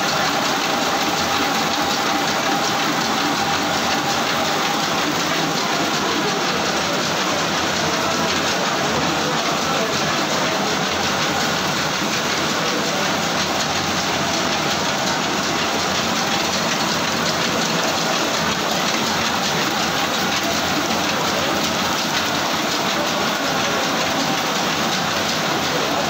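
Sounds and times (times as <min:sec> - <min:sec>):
reeling machine running: 0:00.0 - 0:26.0.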